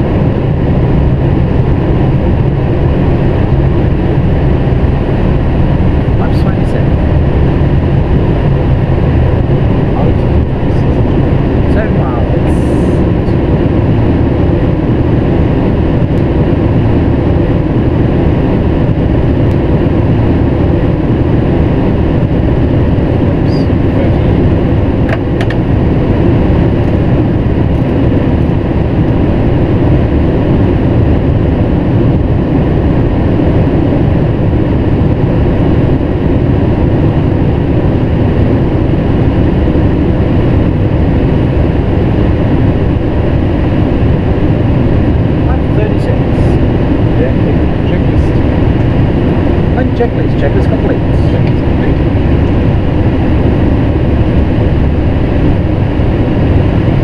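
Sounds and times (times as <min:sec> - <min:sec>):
aircraft engine noise: 0:00.0 - 0:57.0
rush of airflow: 0:00.0 - 0:57.0.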